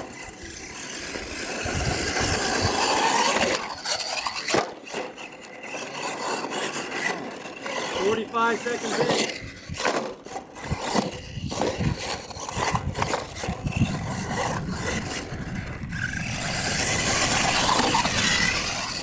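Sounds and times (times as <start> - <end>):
toy truck motor whining: 0.0 - 19.0
tyres scrabbling in dirt: 0.0 - 19.0.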